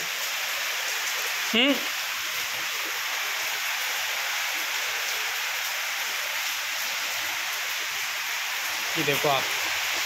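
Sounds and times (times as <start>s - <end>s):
steady rain pouring: 0.0s - 10.0s.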